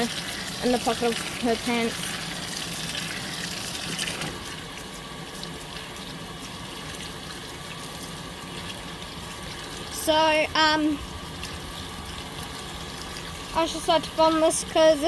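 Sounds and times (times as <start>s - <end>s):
water running into washing machine: 0.0s - 15.0s.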